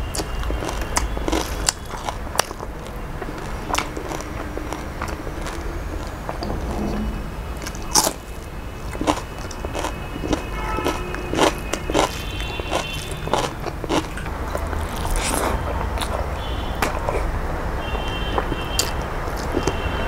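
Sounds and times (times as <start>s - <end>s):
chewing with wet smacks: 0.0s - 6.4s, 8.9s - 20.0s.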